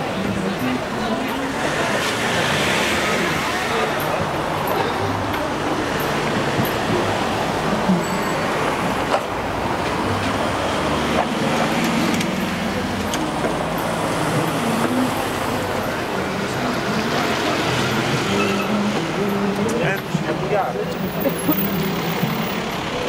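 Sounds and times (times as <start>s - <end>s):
cars driving on cobbles: 0.0s - 23.0s
faint voices: 0.0s - 23.0s.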